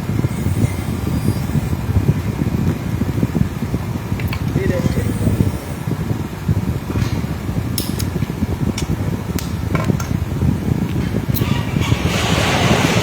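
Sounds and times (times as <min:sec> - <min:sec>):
low mechanical running noise: 0:00.0 - 0:13.0.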